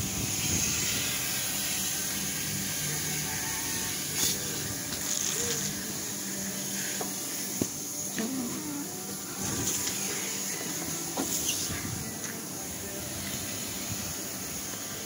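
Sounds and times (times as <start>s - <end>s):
car wash machinery hissing: 0.0s - 15.0s.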